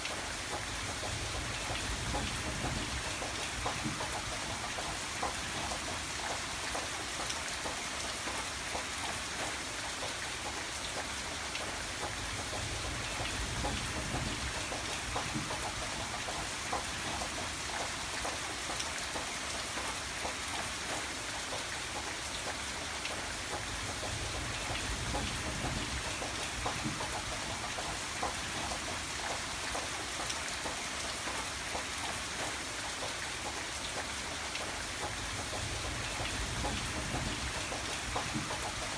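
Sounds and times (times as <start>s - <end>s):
rain drops pattering: 0.0s - 38.9s.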